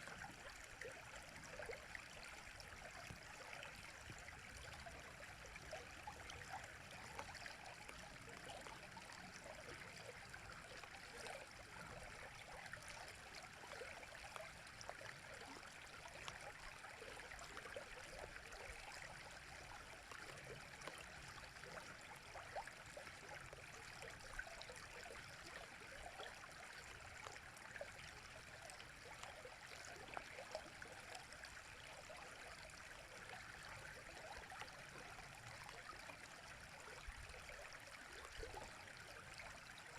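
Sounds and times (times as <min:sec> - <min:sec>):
small water splashes: 0:00.0 - 0:39.9.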